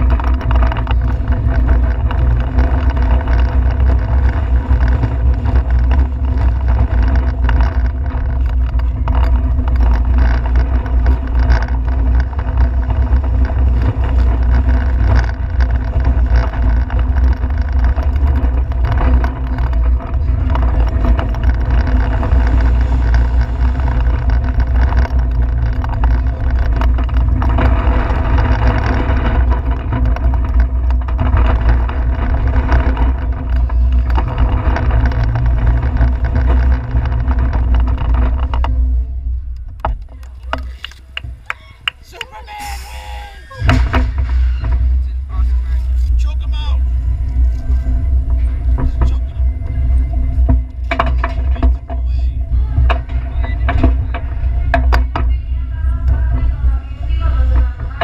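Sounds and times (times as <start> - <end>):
roller coaster wheels rumbling: 0.0 - 58.0.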